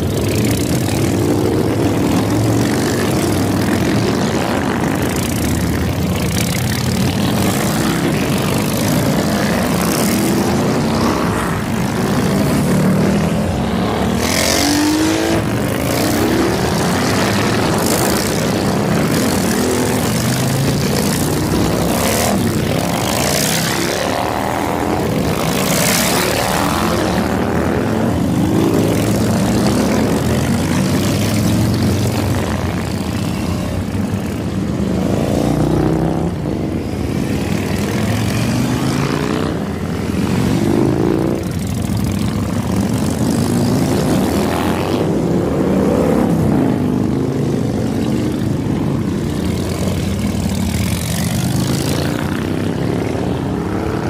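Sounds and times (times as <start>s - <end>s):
motorcycles riding past: 0.0s - 54.0s.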